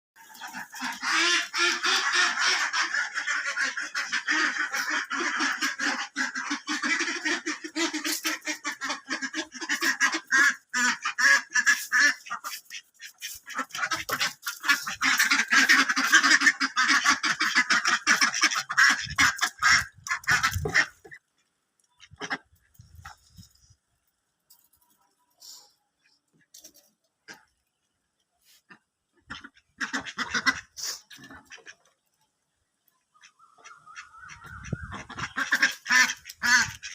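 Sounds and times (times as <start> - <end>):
ducks quacking: 0.2 - 23.8, 25.0 - 32.1, 33.0 - 36.9.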